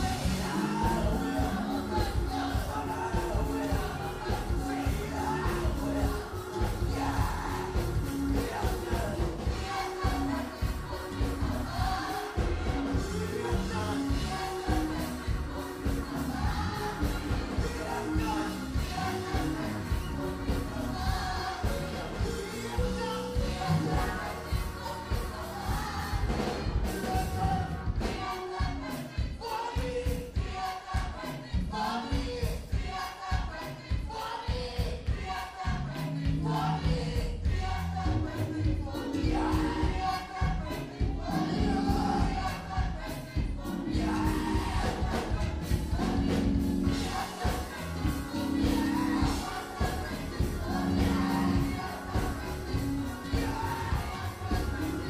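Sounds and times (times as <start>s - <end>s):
band playing: 0.0s - 33.1s, 34.2s - 55.0s
choir singing gospel: 0.0s - 55.0s
steady drum beat: 0.0s - 55.0s.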